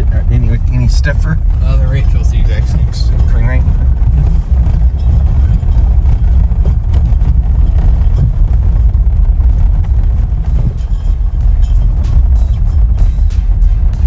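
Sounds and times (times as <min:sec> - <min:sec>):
car driving heard from cabin: 0:00.0 - 0:14.0.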